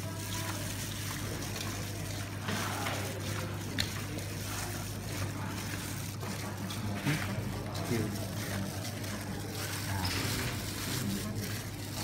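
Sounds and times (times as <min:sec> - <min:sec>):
hands kneading wet meat: 0:00.0 - 0:12.0.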